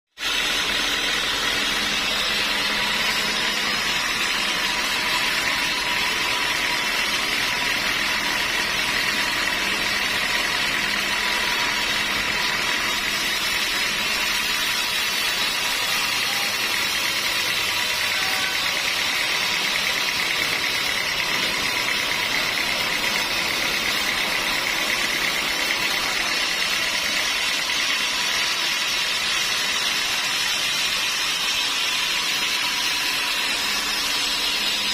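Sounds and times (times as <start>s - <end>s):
sawmill machinery running: 0.2s - 34.9s.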